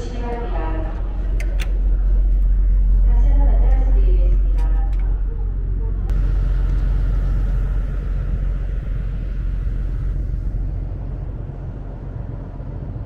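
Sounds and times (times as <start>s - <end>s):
ferry engines rumbling: 0.0s - 13.0s
higher hum: 0.0s - 13.0s.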